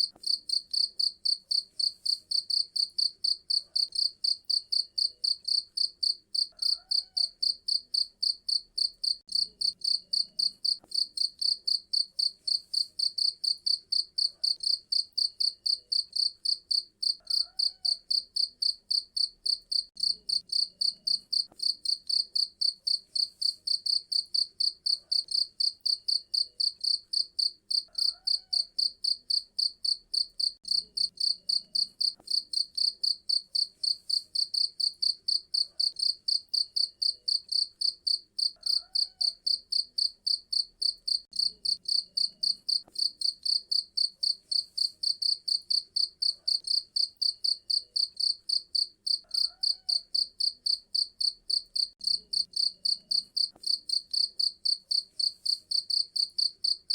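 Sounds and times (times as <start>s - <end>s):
cricket chirping: 0.1s - 56.8s.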